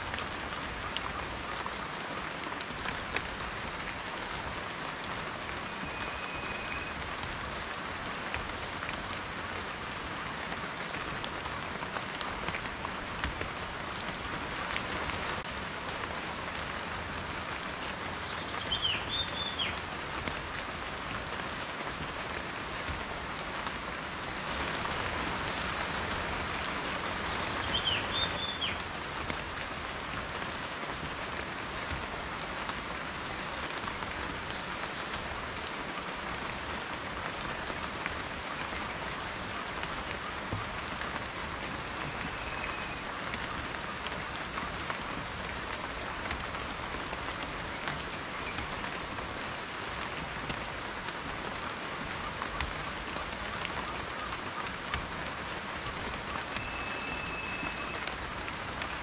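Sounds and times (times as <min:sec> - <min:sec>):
raindrops ticking on a surface: 0:00.0 - 0:59.0
steady rain: 0:00.0 - 0:59.0.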